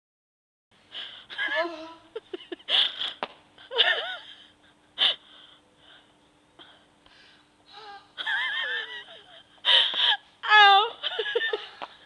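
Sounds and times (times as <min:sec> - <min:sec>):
faint steady hum: 0:00.8 - 0:12.0.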